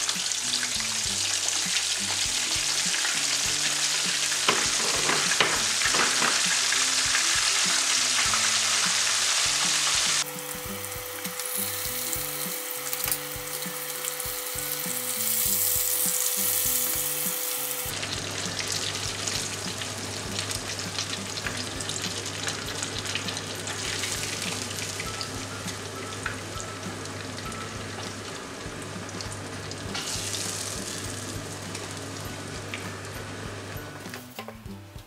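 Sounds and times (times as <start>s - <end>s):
fish frying in hot oil: 0.0s - 33.7s.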